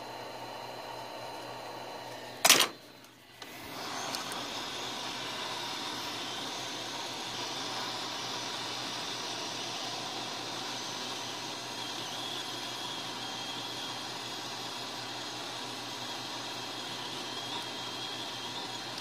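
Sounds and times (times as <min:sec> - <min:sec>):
hot air blower hissing: 0:00.0 - 0:19.0.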